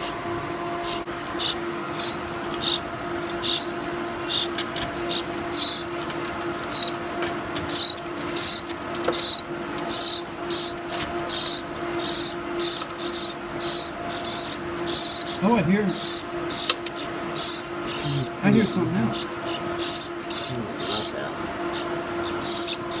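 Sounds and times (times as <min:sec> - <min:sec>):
steady low hum: 0:00.0 - 0:23.0
baby bird chirping: 0:00.8 - 0:02.8, 0:03.4 - 0:05.9, 0:06.6 - 0:07.0, 0:07.6 - 0:23.0.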